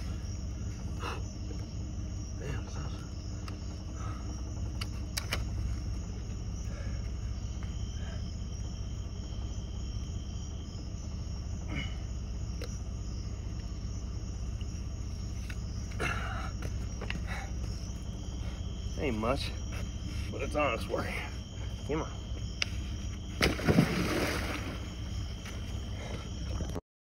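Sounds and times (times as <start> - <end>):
crickets chirping: 0.0 - 26.8
low background rumble: 0.0 - 26.8.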